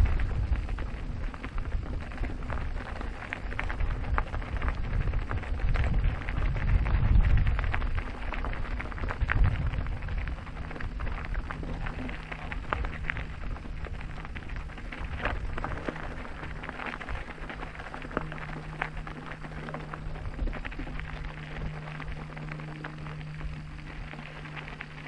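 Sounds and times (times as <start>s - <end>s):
crackle of small clicks: 0.0s - 25.0s
steady low hum: 0.0s - 25.0s
wind buffeting microphone: 0.0s - 25.0s.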